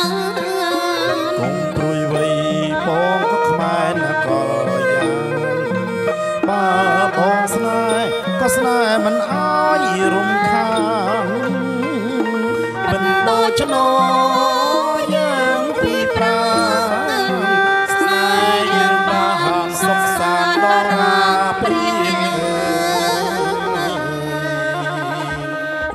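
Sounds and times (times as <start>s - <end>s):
traditional ensemble playing: 0.0s - 25.9s
woman singing into microphone: 0.0s - 25.9s.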